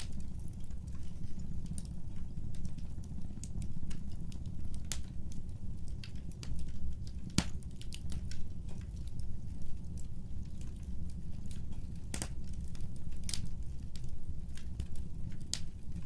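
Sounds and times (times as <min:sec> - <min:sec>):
fire crackling and popping: 0:00.0 - 0:16.0
low roar of flames: 0:00.0 - 0:16.0.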